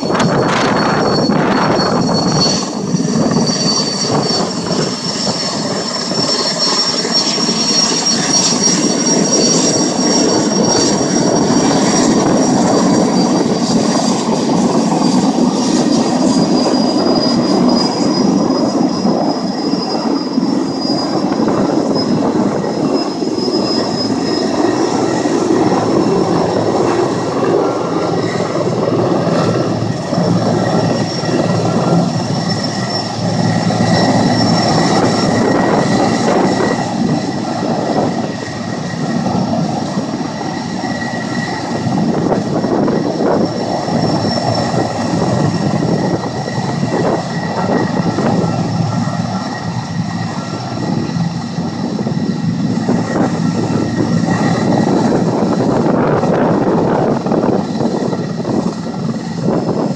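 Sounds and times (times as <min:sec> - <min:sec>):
helicopter rotor rumble: 0:00.0 - 0:59.9
high turbine whine: 0:00.0 - 0:59.9.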